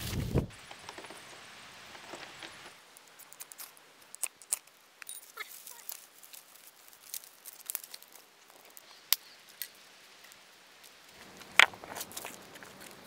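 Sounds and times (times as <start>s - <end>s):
small fire crackling: 0.0s - 13.0s.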